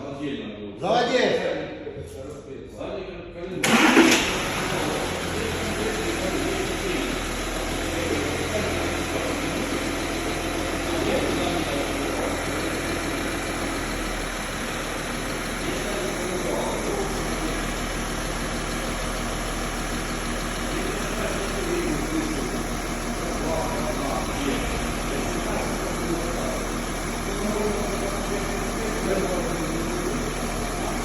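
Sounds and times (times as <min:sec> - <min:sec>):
car engine idling: 0:03.5 - 0:31.0.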